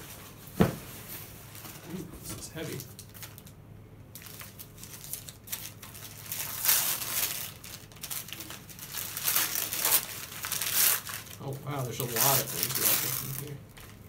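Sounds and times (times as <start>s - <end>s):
wrapping paper crinkling and tearing: 1.4s - 14.0s.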